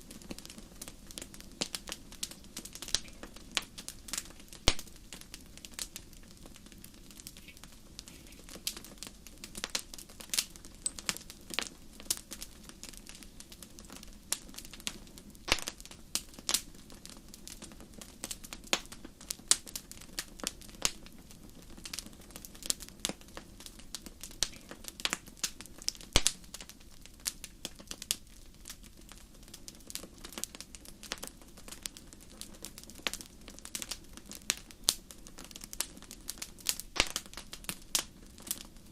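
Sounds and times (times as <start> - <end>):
campfire crackling: 0.0 - 38.9
flames hissing: 0.0 - 38.9.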